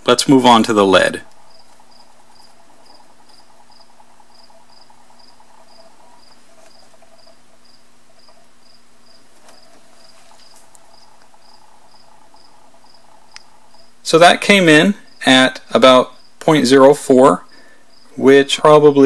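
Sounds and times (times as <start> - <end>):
faint steady hum: 0.0 - 19.0
cricket chirping: 0.8 - 14.0, 14.7 - 16.4, 17.4 - 18.2.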